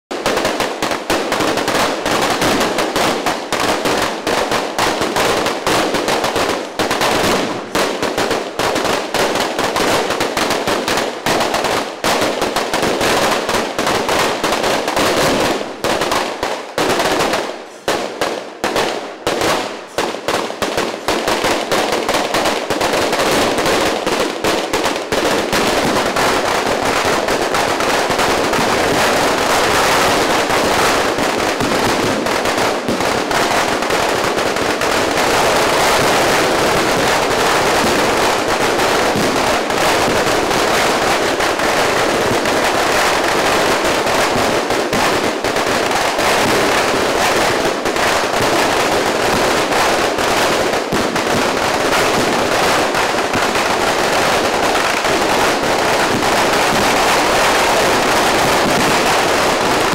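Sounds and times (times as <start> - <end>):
firecrackers exploding: 0.1 - 59.9.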